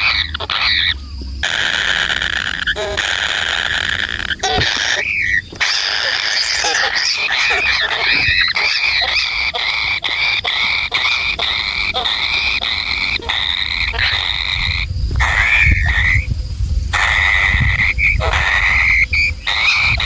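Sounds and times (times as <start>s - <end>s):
nestling birds calling shrilly: 0.0s - 20.0s.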